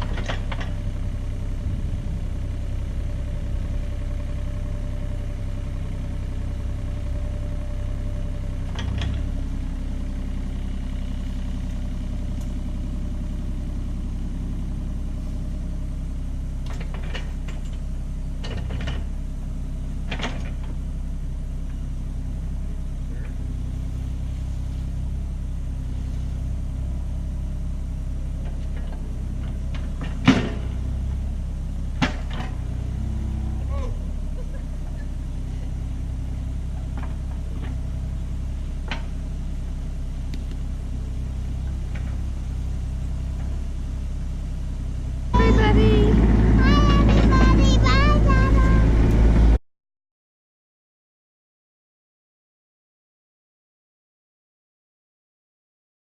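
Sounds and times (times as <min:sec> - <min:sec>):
excavator diesel engine running: 0:00.0 - 0:49.6.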